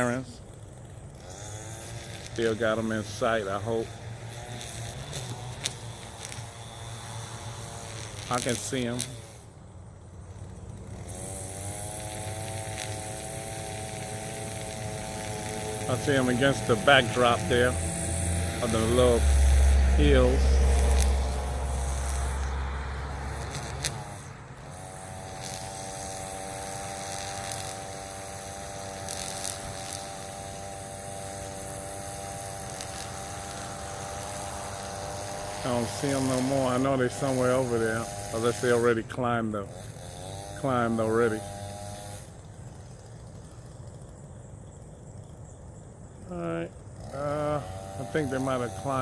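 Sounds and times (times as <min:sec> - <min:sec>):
vehicle engine droning: 0:00.0 - 0:44.2, 0:46.2 - 0:49.0.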